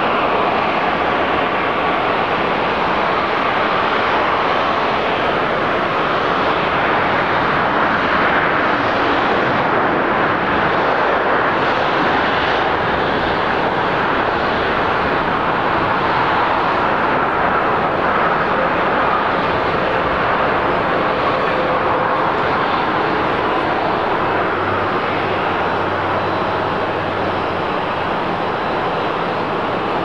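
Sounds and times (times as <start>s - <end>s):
jet engines in reverse thrust: 0.0s - 30.0s.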